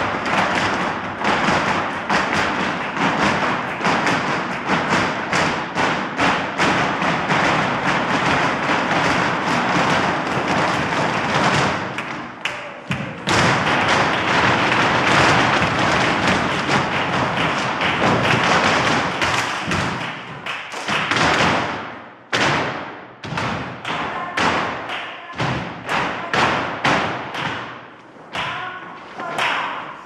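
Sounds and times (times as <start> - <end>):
flamenco shoes stamping on wood: 0.0 - 29.8.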